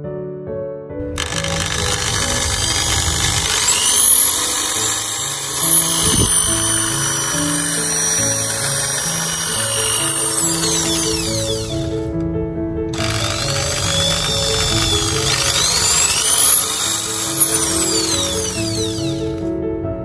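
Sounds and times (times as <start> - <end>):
electric drill motor whine: 1.2 - 12.0, 12.9 - 19.5.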